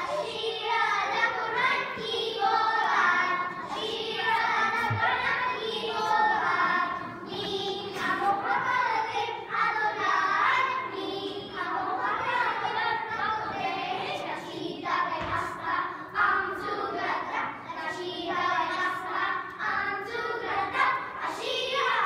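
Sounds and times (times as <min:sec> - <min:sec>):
young children singing: 0:00.0 - 0:22.0.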